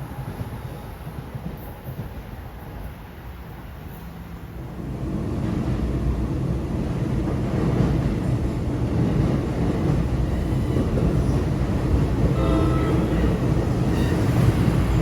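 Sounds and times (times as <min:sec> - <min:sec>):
train approaching with low rumble: 0:00.0 - 0:15.0.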